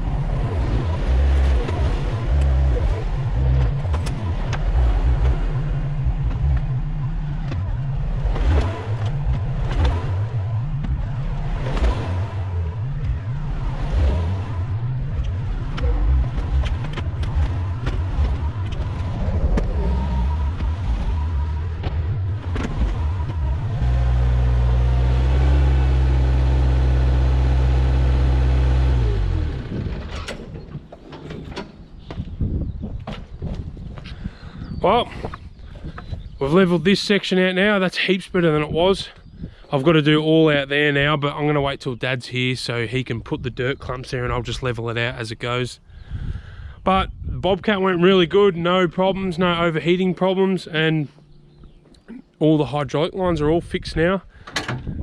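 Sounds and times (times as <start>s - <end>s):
diesel engine working: 0.0s - 55.0s.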